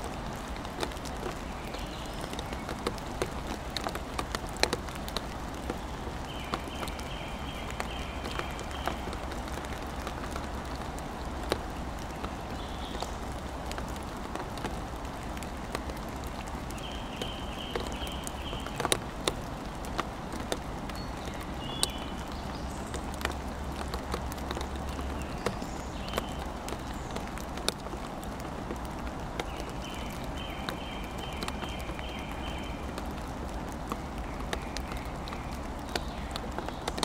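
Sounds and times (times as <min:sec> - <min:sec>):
rain hissing: 0:00.0 - 0:37.0
raindrops tapping on wood: 0:00.0 - 0:37.0.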